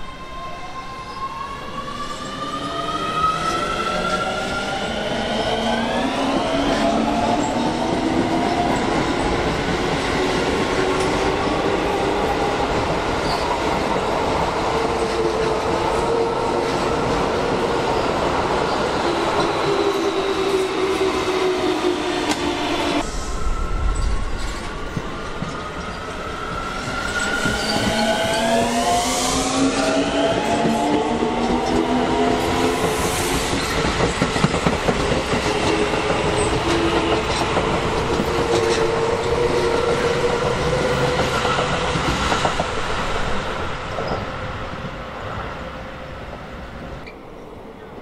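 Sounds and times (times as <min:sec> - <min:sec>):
train rolling noise: 0:00.1 - 0:47.6.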